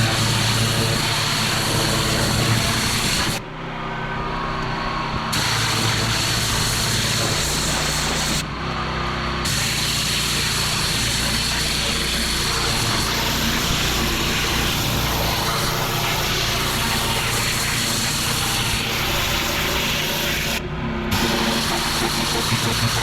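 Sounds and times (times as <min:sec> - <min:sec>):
water jet spraying on paving: 0:00.0 - 0:03.4, 0:05.4 - 0:08.4, 0:09.5 - 0:23.0
pressure washer engine running: 0:00.0 - 0:23.0.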